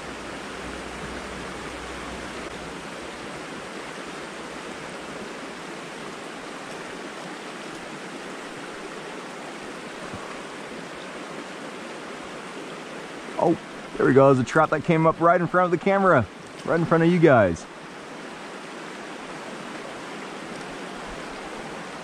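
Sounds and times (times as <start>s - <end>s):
creek water flowing over rocks: 0.0s - 22.0s.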